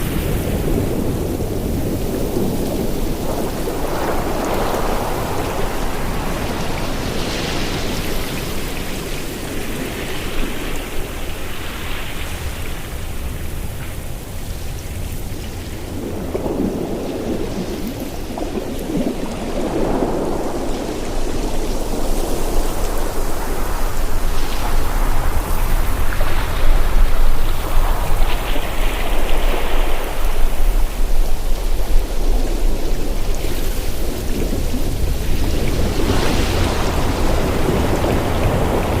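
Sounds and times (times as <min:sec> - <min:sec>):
waves breaking on shore: 0:00.0 - 0:39.0.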